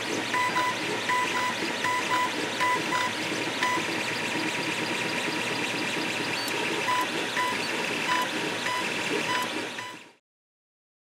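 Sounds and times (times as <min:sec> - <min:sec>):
cooling fan whirring: 0:00.0 - 0:10.1
stepper motors whining: 0:00.0 - 0:10.2.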